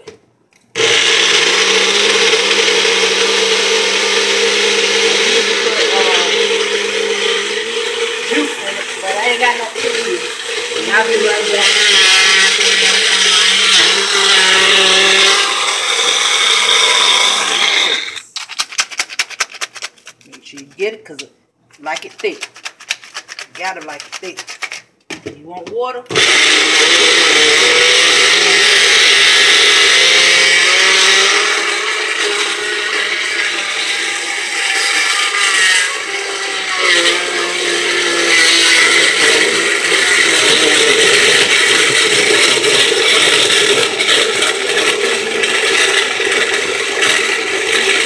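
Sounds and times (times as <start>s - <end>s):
blender motor running: 0.8s - 18.2s, 26.1s - 48.0s.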